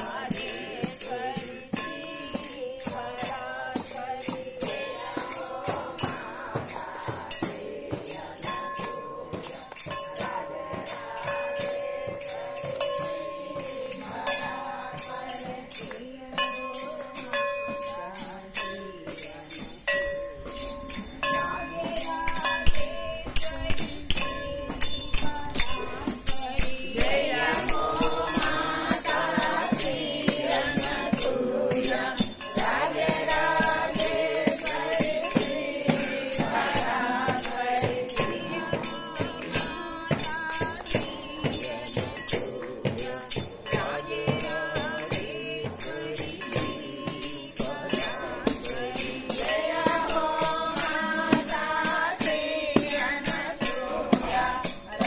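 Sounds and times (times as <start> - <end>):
group singing a devotional chant: 0.0 - 55.0
quick percussive beat: 0.0 - 55.0.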